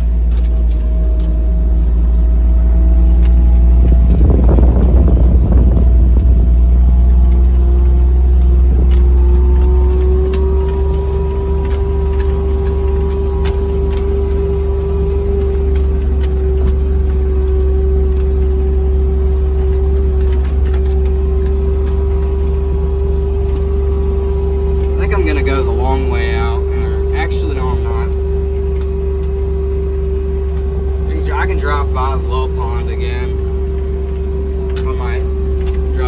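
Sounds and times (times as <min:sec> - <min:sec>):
vehicle driving drone and whine: 0:00.0 - 0:36.0.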